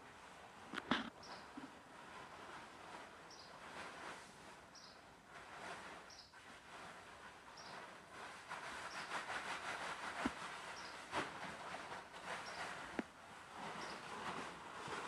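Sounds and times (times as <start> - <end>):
plastic tarpaulin rustling: 0.0 - 15.0.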